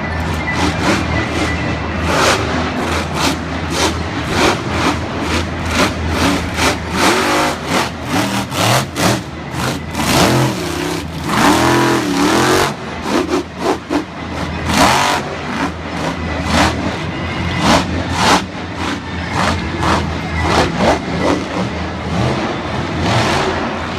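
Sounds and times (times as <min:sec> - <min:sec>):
monster truck engine revving: 0:00.0 - 0:23.9.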